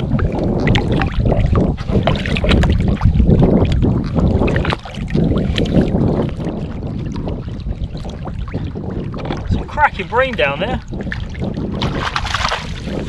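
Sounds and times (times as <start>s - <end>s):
water around boat hull: 0.0s - 13.0s
wind rumbling on microphone: 0.0s - 13.0s.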